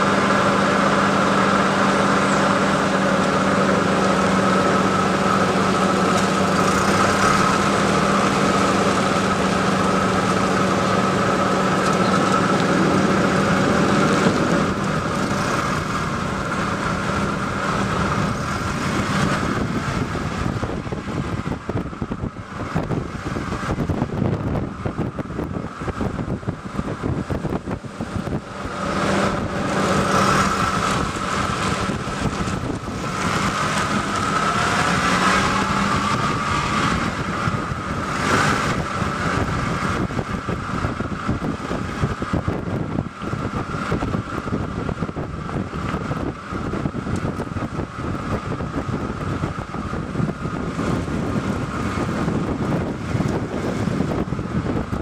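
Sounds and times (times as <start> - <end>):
tyre and road noise on concrete: 0.0 - 55.0
wind buffeting microphone: 0.0 - 55.0.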